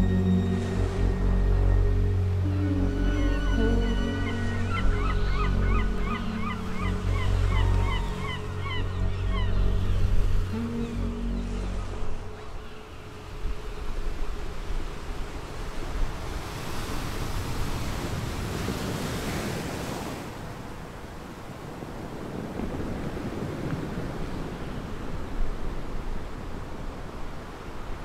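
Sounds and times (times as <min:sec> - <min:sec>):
wind: 0:00.0 - 0:28.0
sea waves washing on shore: 0:05.4 - 0:28.0.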